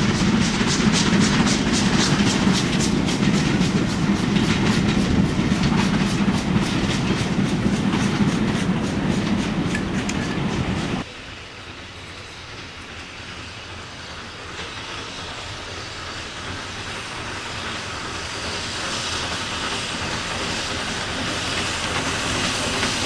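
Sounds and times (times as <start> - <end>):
train wheels clicking over rail joints: 0.0 - 23.0.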